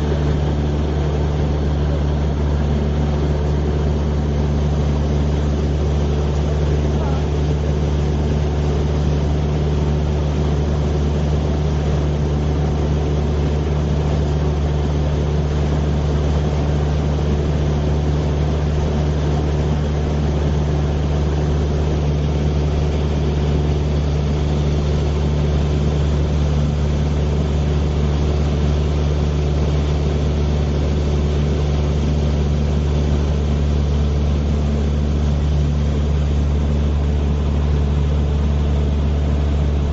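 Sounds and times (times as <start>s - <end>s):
helicopter interior drone: 0.0s - 39.9s.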